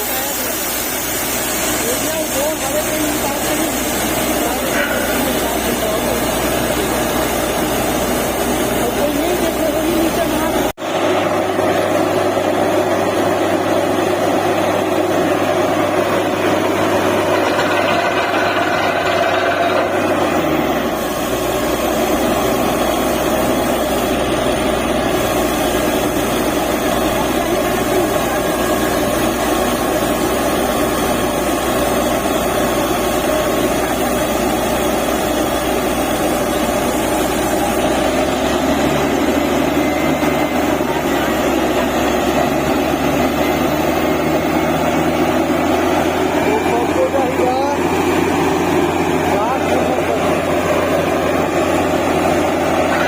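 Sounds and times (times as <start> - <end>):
drilling rig engine running: 0.0 - 53.0.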